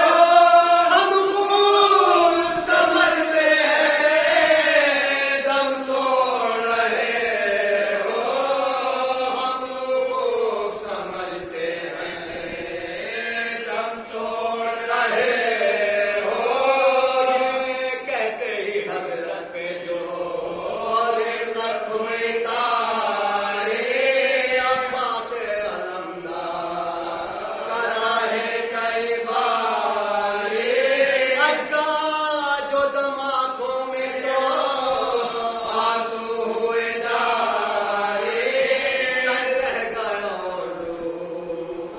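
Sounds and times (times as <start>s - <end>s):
men chanting together: 0.0s - 41.9s.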